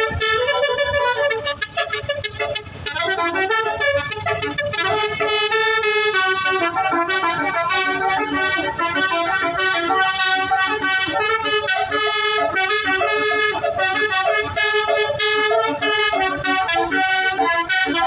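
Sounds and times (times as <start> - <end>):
musical bus air horn tune: 0.0 - 18.0.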